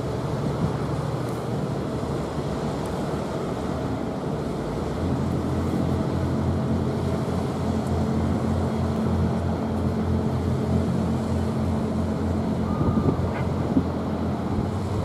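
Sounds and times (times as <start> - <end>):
ship engines droning: 0.0 - 15.0
wind and water hiss: 0.0 - 15.0.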